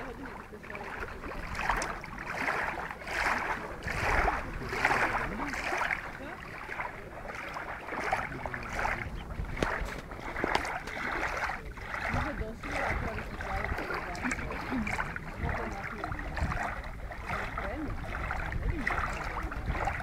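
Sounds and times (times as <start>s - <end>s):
choppy lake water: 0.0s - 20.0s
wind on microphone: 0.0s - 20.0s.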